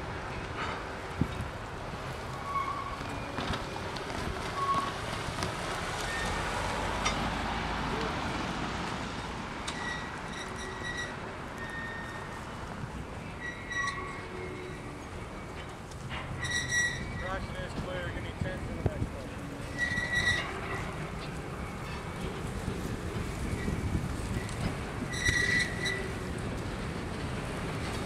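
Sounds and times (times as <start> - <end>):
train cars rolling on rails: 0.0 - 28.0.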